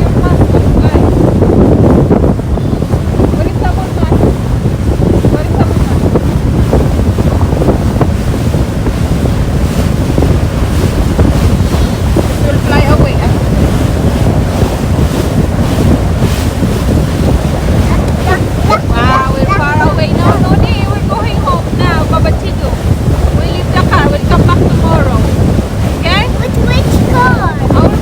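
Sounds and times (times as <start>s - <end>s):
rushing water: 0.0s - 28.0s
wind buffeting microphone: 0.0s - 28.0s.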